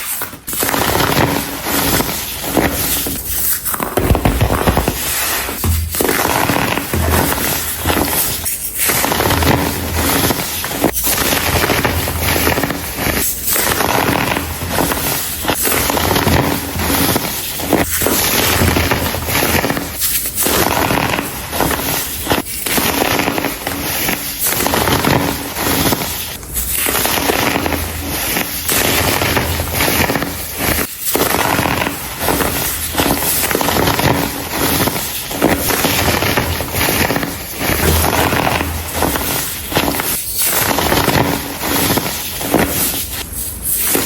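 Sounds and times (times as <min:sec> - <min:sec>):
baking soda crunching by hand: 0:00.0 - 0:44.0.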